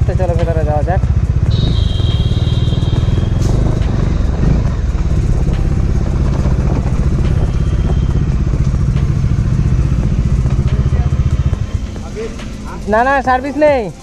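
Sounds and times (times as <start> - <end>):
motorcycle engine running slowly: 0.0 - 13.5.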